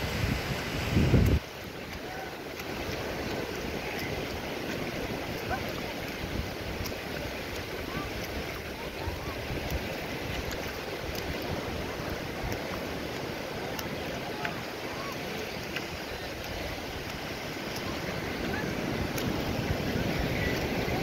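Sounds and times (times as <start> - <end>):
sea surf breaking on beach: 0.0 - 21.0.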